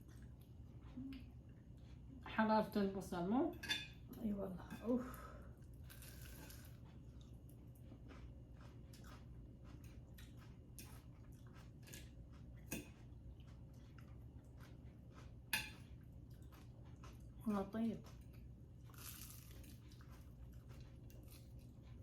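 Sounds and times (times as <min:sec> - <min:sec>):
people chewing: 0:00.0 - 0:02.2, 0:05.1 - 0:22.0.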